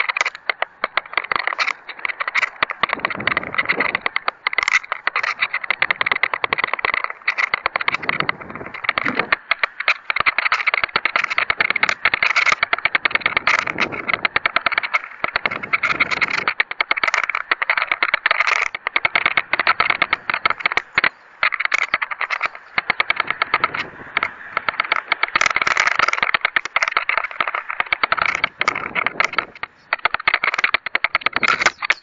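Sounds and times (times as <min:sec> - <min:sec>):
air rushing over camera: 0:00.0 - 0:31.5
crackle of rapid clicks and rattles: 0:00.0 - 0:32.0.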